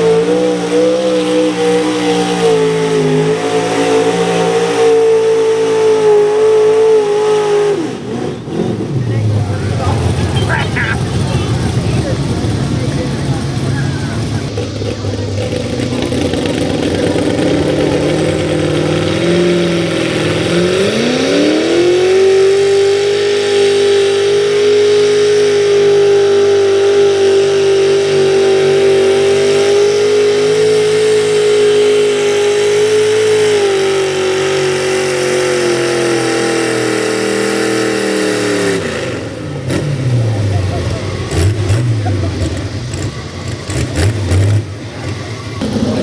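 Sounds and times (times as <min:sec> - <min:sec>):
truck engine at full throttle: 0:00.0 - 0:46.0.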